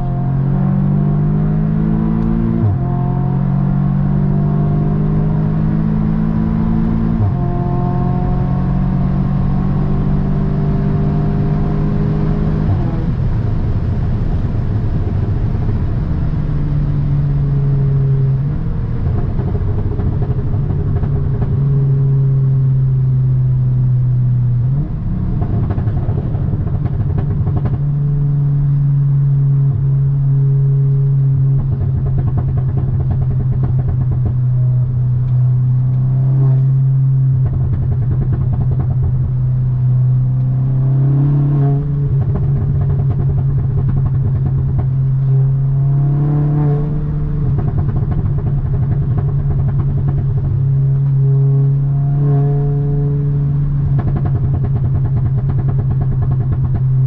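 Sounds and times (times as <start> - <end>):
car engine and exhaust while driving: 0.0 - 57.0.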